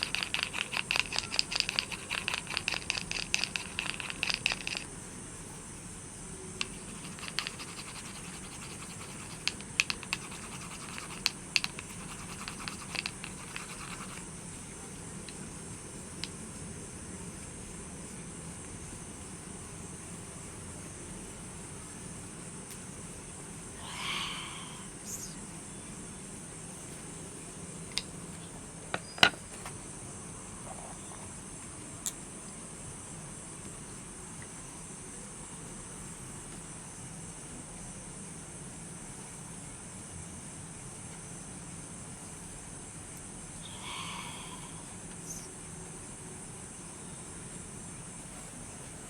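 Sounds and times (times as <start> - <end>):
high-pitched insect chorus: 0.0 - 49.0.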